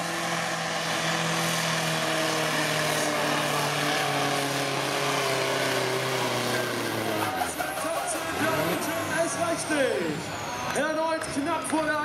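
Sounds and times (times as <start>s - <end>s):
diesel engine under heavy load: 0.0s - 12.0s.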